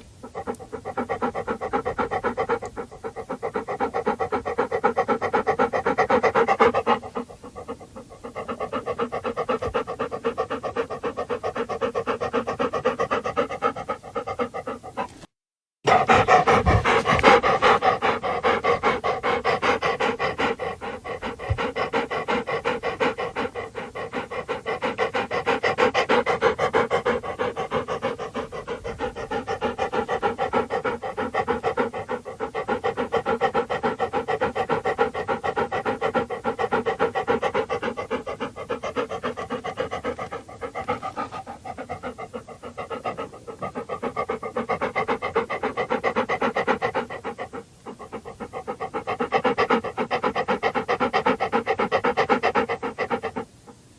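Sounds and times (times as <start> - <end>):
dog panting: 0.0 - 53.8.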